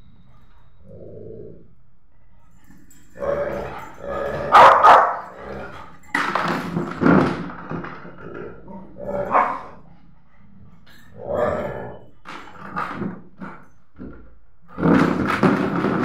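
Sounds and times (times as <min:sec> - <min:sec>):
dogs growling and barking: 0:00.2 - 0:16.0.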